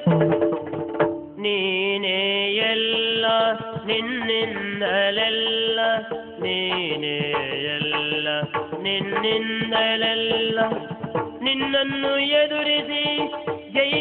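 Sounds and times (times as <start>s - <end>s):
drum strokes: 0.0s - 1.7s, 2.4s - 14.0s.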